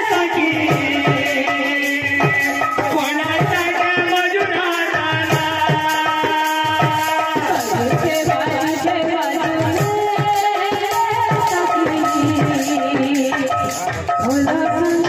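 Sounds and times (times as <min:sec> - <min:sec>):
hand drum beating: 0:00.0 - 0:15.0
person singing: 0:00.0 - 0:15.0.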